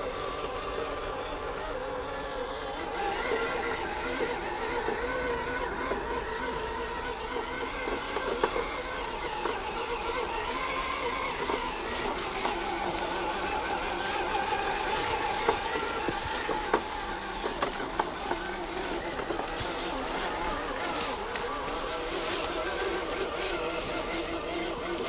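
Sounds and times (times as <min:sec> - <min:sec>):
electric motor whining: 0:00.0 - 0:25.0
tyres crackling on dry leaves: 0:00.0 - 0:25.0.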